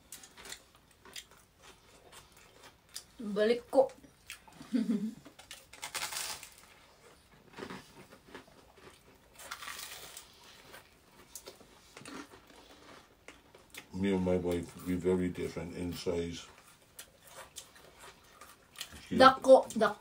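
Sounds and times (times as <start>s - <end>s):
crunchy bread being chewed: 0.0s - 3.2s, 3.8s - 15.3s, 15.9s - 20.0s.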